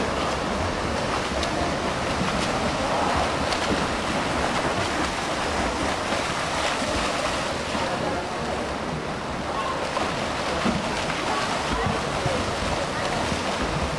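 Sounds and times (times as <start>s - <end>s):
swimmers splashing in pool water: 0.0s - 13.9s.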